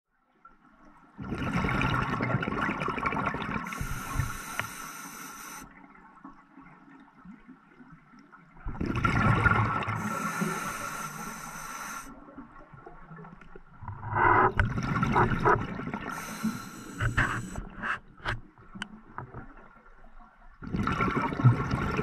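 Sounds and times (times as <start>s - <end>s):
exhaled bubbles underwater: 1.1s - 17.8s, 18.9s - 22.0s.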